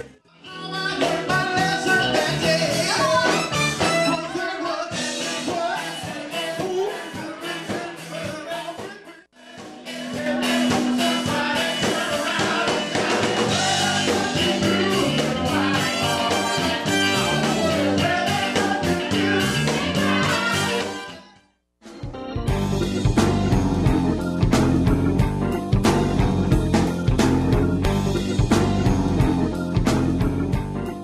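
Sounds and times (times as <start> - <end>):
rock band music with singer: 0.0 - 21.3, 21.9 - 31.0.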